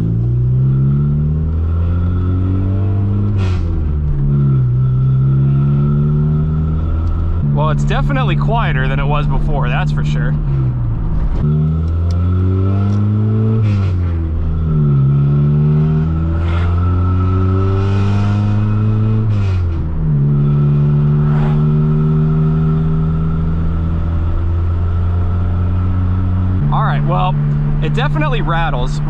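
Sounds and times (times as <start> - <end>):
car engine revving through gears: 0.0 - 29.0
exhaust rattling: 0.0 - 29.0.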